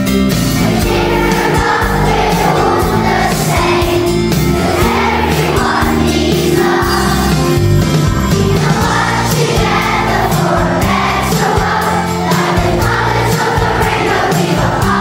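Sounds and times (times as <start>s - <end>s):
background music: 0.0s - 15.0s
voices singing: 0.3s - 15.0s.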